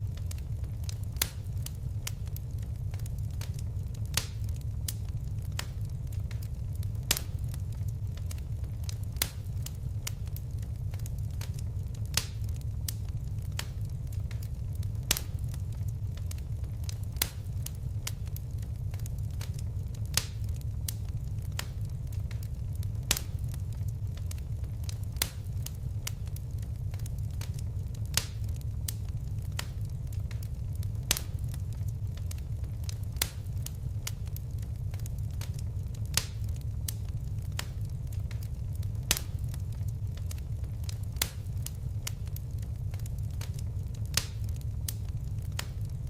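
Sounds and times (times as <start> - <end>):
fireplace fire crackling: 0.0 - 46.0
low rumble of flames: 0.0 - 46.0
sharp pops of fire: 0.1 - 46.0.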